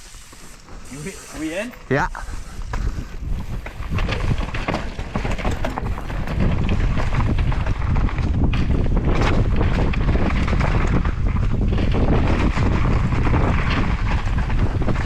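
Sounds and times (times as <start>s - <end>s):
bike rattling and clacking: 0.0s - 15.0s
wind rushing over microphone: 0.0s - 15.0s
tyres rumbling over dirt: 0.3s - 15.0s.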